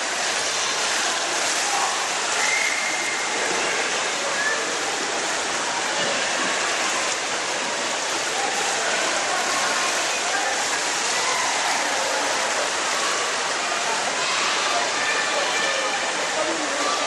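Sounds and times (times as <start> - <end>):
faint voices: 0.0 - 17.0
rushing water in swimming pool: 0.0 - 17.0.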